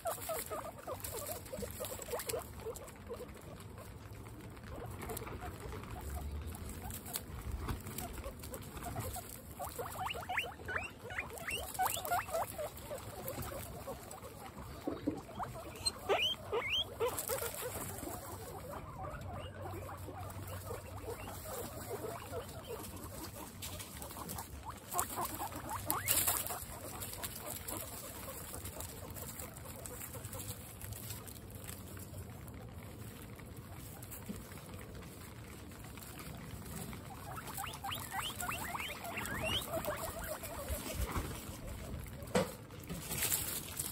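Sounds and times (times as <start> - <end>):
guinea pigs squeaking: 0.0 - 43.9.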